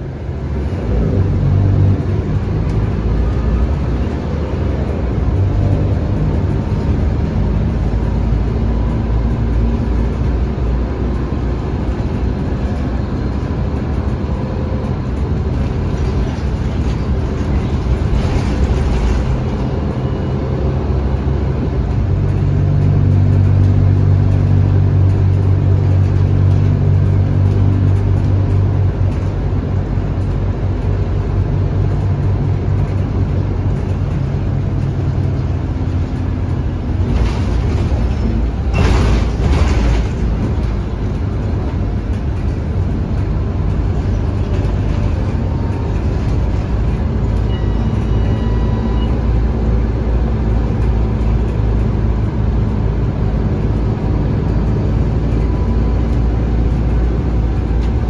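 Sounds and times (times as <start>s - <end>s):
bus engine drone: 0.0s - 58.0s
road noise: 0.0s - 58.0s.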